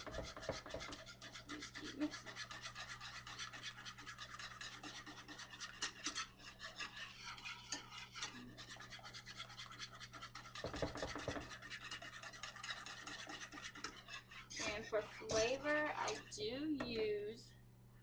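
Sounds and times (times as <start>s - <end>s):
utensil scraping skillet: 0.0s - 17.2s.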